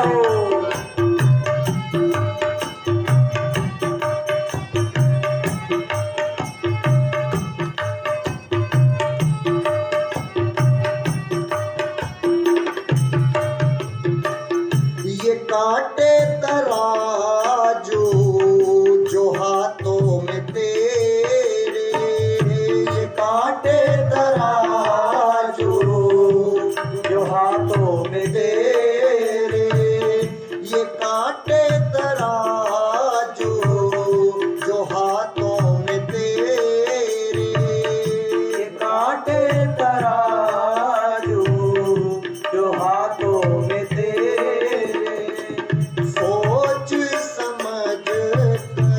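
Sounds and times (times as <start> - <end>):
tabla playing steady rhythm: 0.0 - 48.9.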